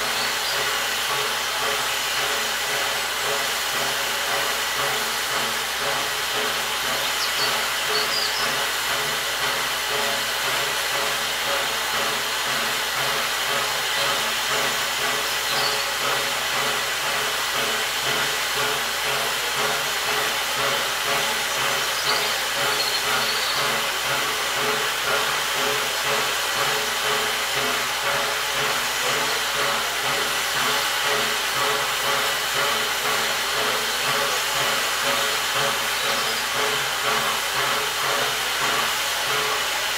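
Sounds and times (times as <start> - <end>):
locomotive exhaust beats: 0.0 - 39.9
steam locomotive hissing: 0.0 - 39.9.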